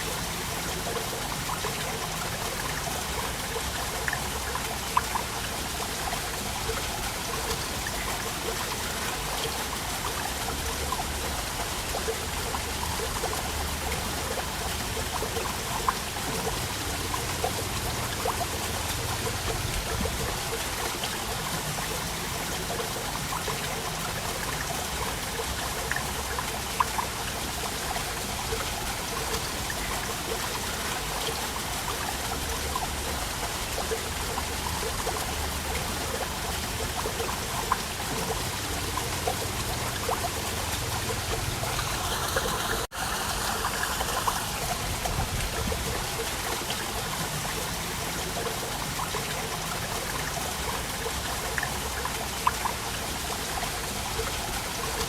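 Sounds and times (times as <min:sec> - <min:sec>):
individual water splashes: 0:00.0 - 0:55.0
small waterfall splashing: 0:00.0 - 0:55.0.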